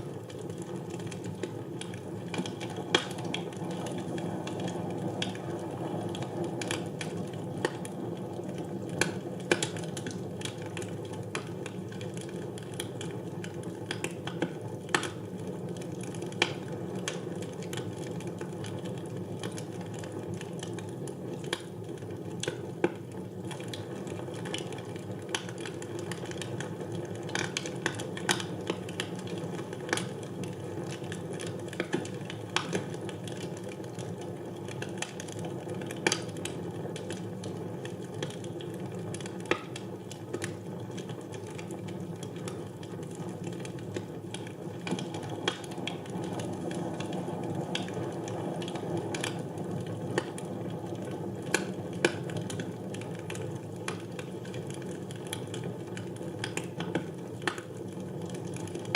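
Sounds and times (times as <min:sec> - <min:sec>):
crackles and pops of burning wood: 0:00.0 - 0:58.9.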